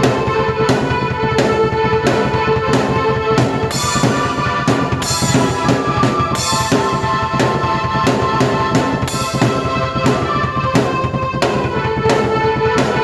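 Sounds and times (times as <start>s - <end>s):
drum beat: 0.0s - 13.0s
keyboard chords: 0.0s - 13.0s.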